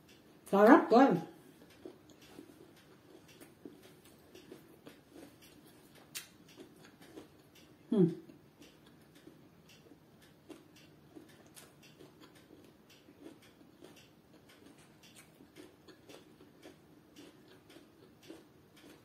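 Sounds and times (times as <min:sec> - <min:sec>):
chewing mouth sounds: 0:01.6 - 0:19.0.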